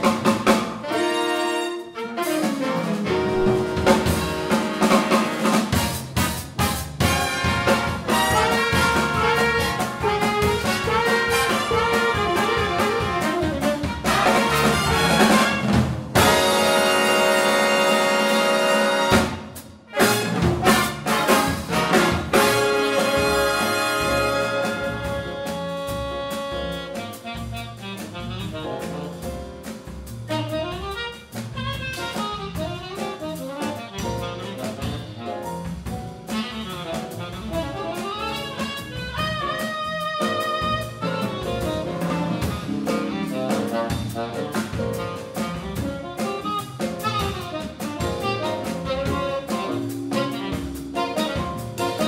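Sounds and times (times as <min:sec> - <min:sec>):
jazz big band playing: 0:00.0 - 0:52.0
saxophone solo: 0:00.8 - 0:29.1, 0:30.3 - 0:35.4, 0:36.3 - 0:52.0
held brass chords: 0:00.8 - 0:29.2, 0:30.3 - 0:35.4, 0:36.2 - 0:52.0.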